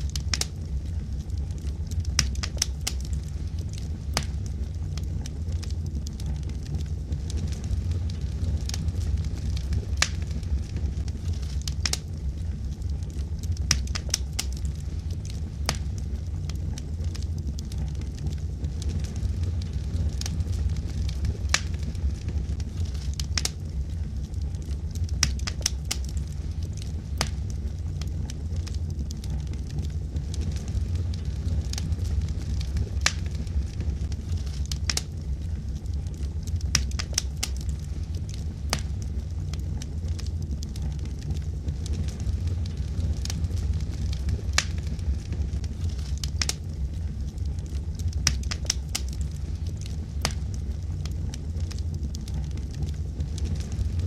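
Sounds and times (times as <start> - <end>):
flames rumbling: 0.0 - 54.0
wood crackling and popping: 0.0 - 54.0.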